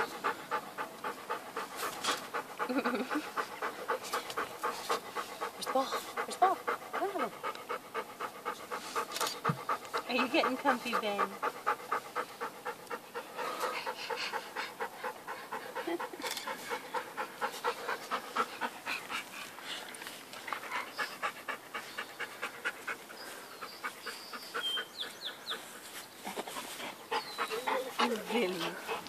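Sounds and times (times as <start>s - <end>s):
dog panting: 0.0s - 29.0s.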